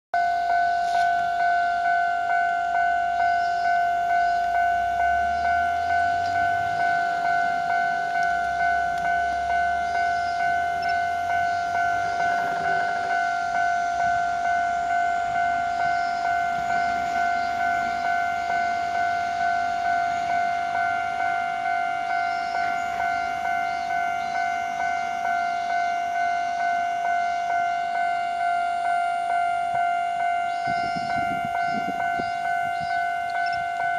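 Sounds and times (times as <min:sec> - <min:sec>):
electronic crossing bell dinging: 0:00.2 - 0:33.9.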